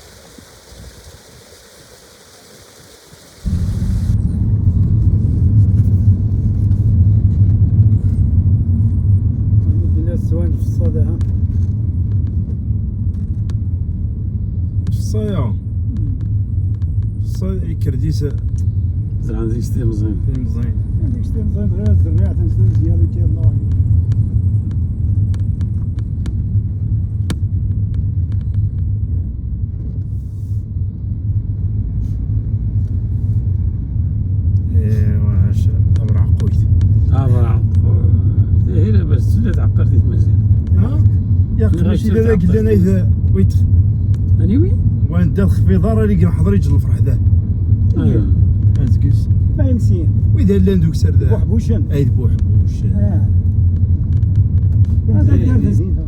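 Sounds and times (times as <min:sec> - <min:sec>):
car interior road and engine noise: 0:00.0 - 0:56.0
low rumble: 0:00.0 - 0:56.0.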